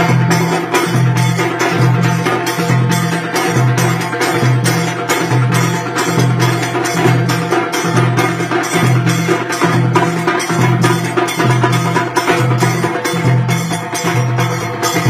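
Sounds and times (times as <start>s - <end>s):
drums playing: 0.0s - 15.0s
hand cymbals: 0.0s - 15.0s.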